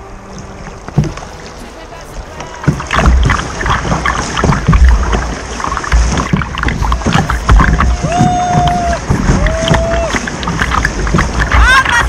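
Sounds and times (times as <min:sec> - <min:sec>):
water splashing against kayak: 0:00.0 - 0:12.0
dull low thumps: 0:02.3 - 0:12.0.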